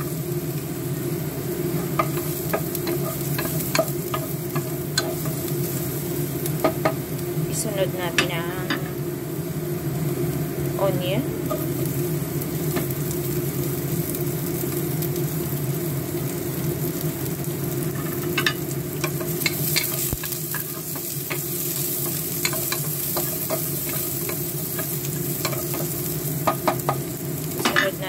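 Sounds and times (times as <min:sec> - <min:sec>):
garlic and onion sizzling: 0:00.0 - 0:28.0.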